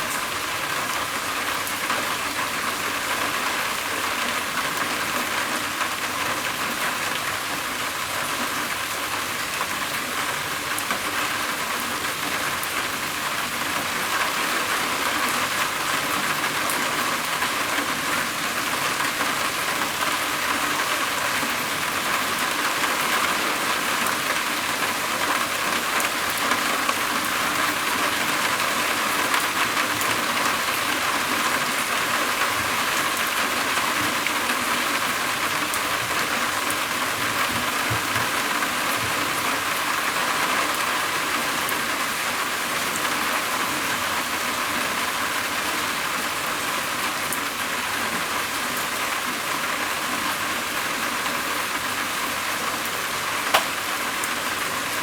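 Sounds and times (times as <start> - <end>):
rain on a roof: 0.0 - 55.0.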